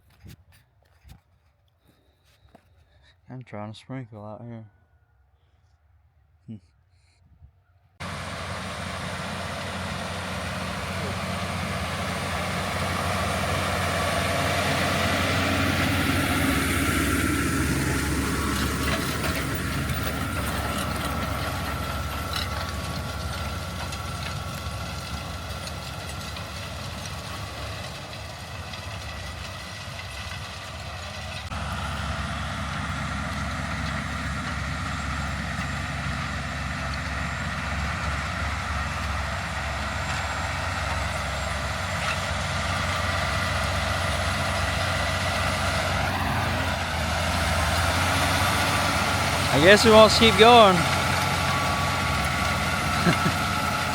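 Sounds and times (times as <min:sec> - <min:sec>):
heavy machinery engine running: 0:08.0 - 0:53.9.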